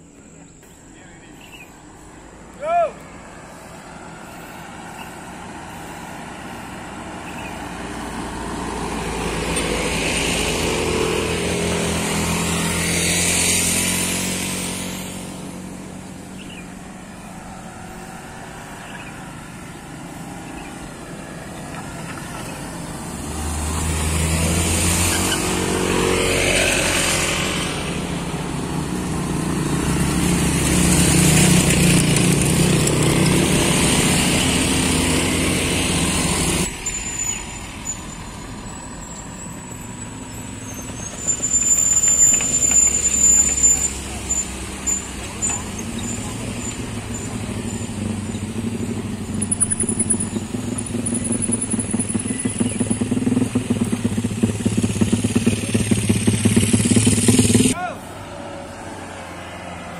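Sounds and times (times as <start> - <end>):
cars driving past: 0.0 - 59.9
motor scooters passing: 0.0 - 59.9.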